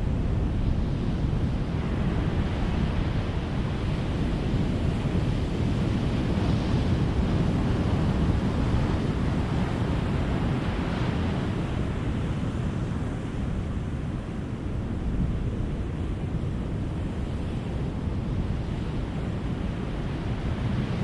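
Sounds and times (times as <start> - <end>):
breaking waves rumble: 0.0 - 21.0.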